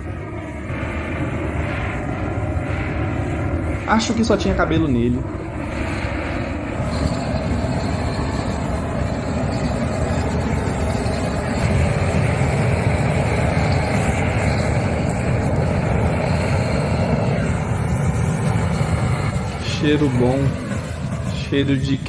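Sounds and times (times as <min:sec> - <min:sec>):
wood fire burning: 0:00.0 - 0:22.0.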